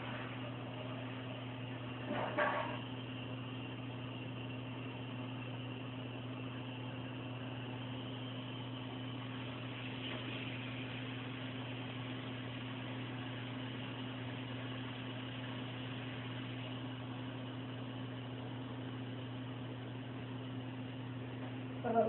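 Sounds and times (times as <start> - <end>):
constant hiss: 0.0 - 22.0
steady low hum: 0.0 - 22.0.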